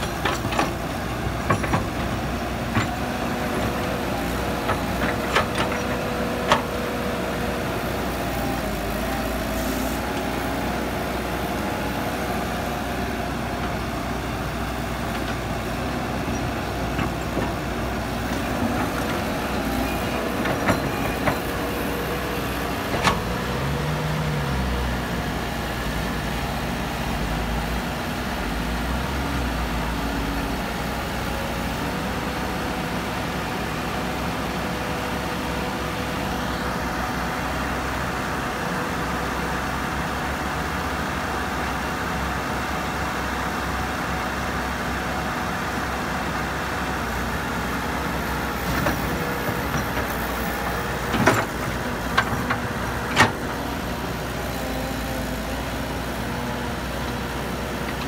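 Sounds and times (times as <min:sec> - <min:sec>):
excavator diesel engine under load: 0:00.0 - 0:58.0.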